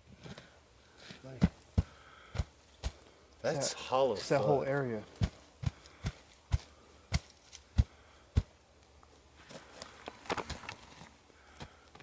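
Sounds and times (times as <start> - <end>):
rustling and scraping of dirt: 0.0 - 12.0.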